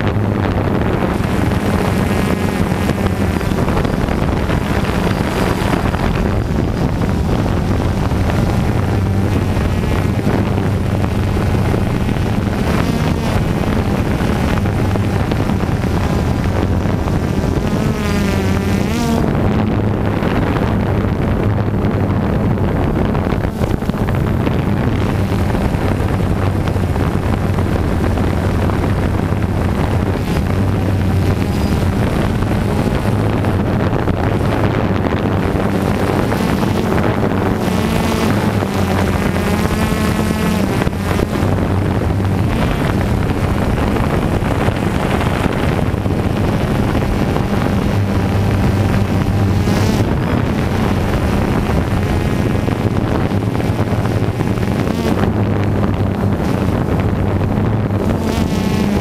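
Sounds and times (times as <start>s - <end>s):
drone propellers buzzing: 0.0s - 59.0s
wind rushing over microphone: 0.0s - 59.0s.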